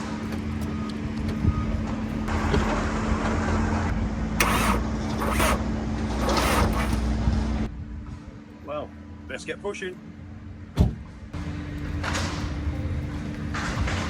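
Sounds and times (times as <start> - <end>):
vehicle engine hum: 0.0 - 8.2, 10.0 - 14.0.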